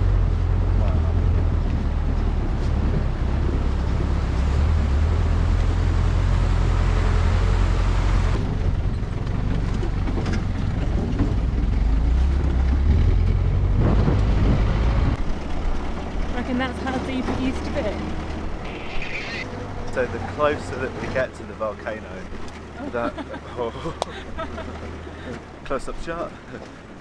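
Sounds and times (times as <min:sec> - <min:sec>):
jeep engine rumble: 0:00.0 - 0:27.0
road noise over rocks: 0:00.0 - 0:27.0.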